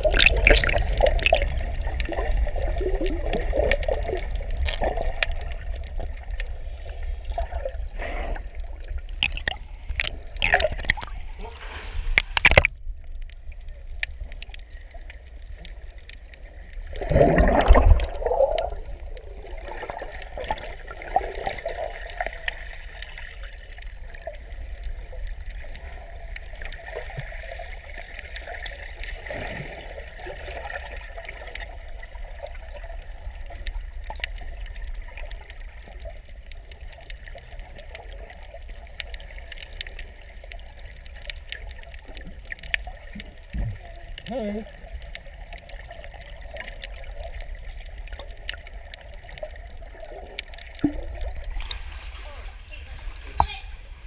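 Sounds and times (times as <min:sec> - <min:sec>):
fine crackle of clicks: 0:00.0 - 0:11.4, 0:12.0 - 0:52.0
gurgling rush of bubbles: 0:00.0 - 0:53.1
muffled underwater rumble: 0:00.0 - 0:54.0.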